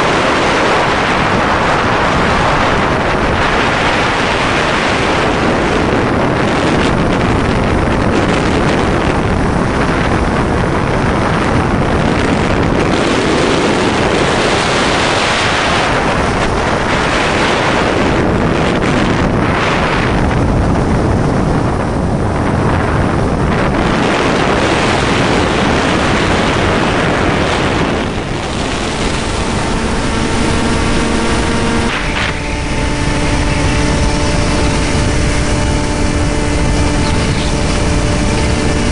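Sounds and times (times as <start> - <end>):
electric motor and propeller whine: 0.0 - 38.9
wind rushing over microphone: 0.0 - 38.9.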